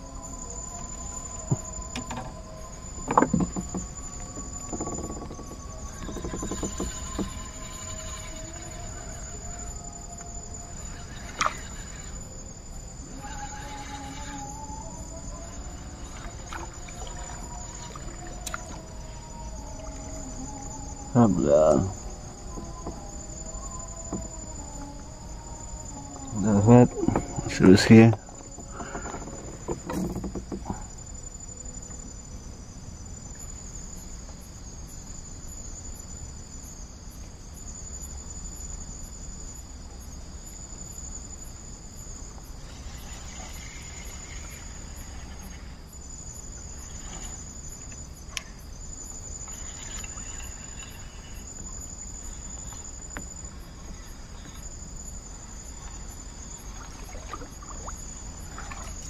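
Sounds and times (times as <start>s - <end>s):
faint low hum: 0.0s - 59.0s
insects chirring: 0.0s - 59.0s.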